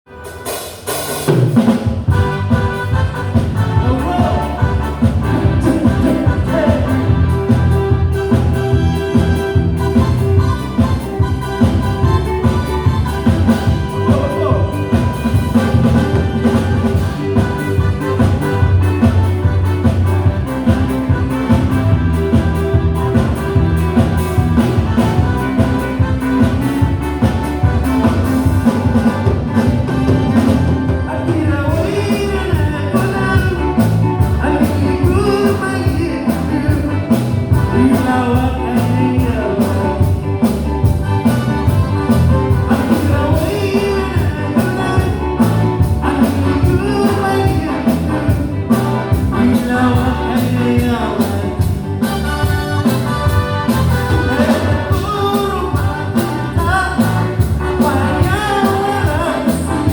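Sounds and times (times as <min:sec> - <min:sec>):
live band music: 0:00.1 - 0:59.9
steady drum beat: 0:00.4 - 0:59.9
person singing: 0:02.1 - 0:59.9.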